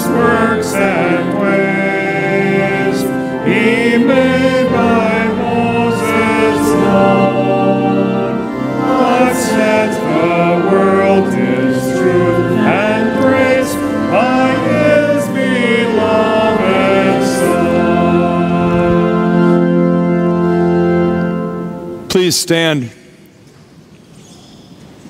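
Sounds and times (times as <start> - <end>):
voices singing a hymn: 0.0 - 22.0
pipe organ: 0.0 - 23.0.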